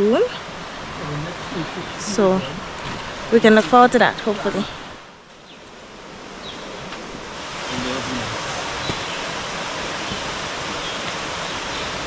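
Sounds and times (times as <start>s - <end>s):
waterfall rushing water: 0.0s - 5.0s, 6.0s - 12.0s.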